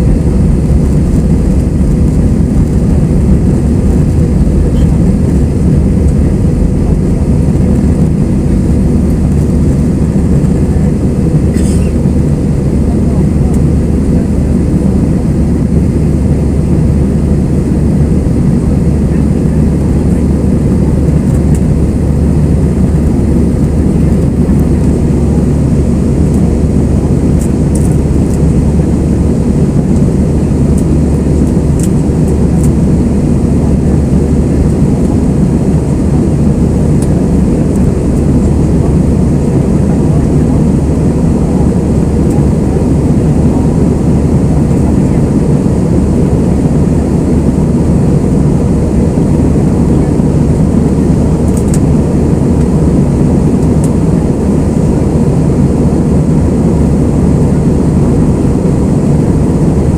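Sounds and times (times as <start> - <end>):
jet engine cabin rumble: 0.0 - 59.9.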